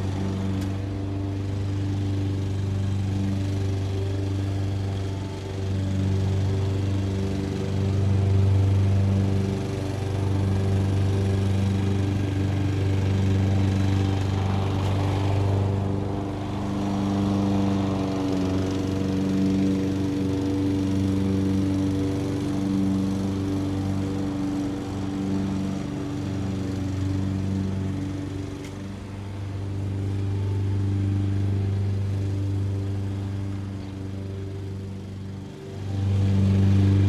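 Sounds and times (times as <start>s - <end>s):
distant lawn mower engine: 0.0s - 37.0s.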